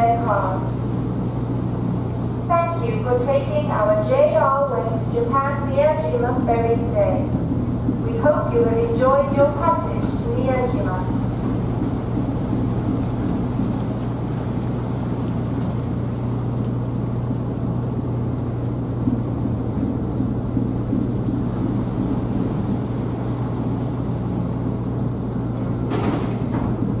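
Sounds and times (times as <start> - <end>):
ferry engines humming: 0.0 - 27.0
propellers churning water: 0.0 - 27.0.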